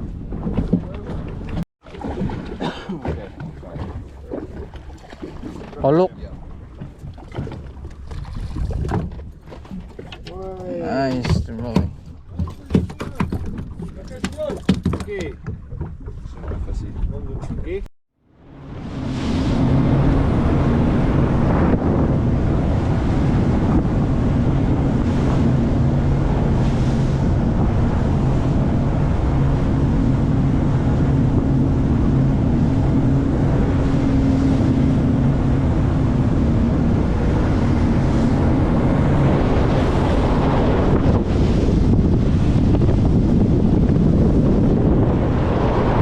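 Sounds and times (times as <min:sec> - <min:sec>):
boat engine humming: 0:00.0 - 0:46.0
water around hull: 0:00.0 - 0:46.0
wind buffeting microphone: 0:00.0 - 0:46.0.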